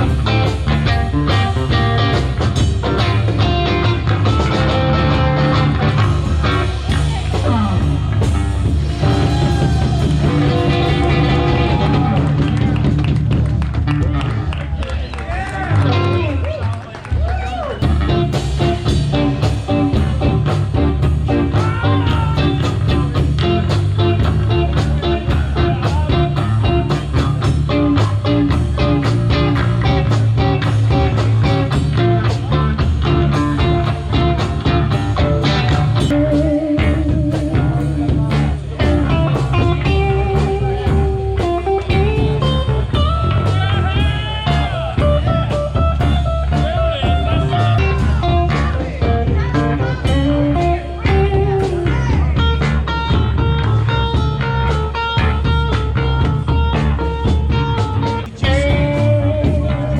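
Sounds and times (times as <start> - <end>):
live band playing blues: 0.0 - 59.9.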